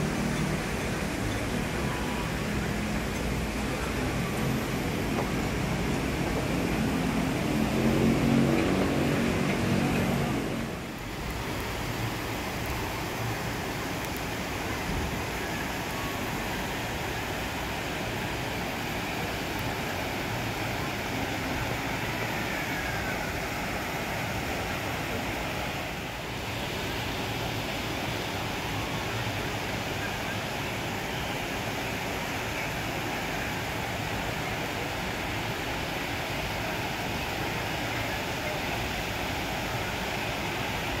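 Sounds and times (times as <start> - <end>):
river water rushing over rocks: 0.0 - 41.0.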